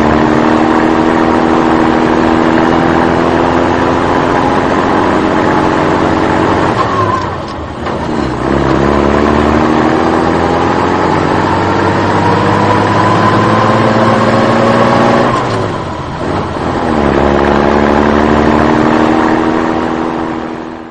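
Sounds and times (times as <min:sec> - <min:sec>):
vehicle engine revving: 0:00.0 - 0:20.9.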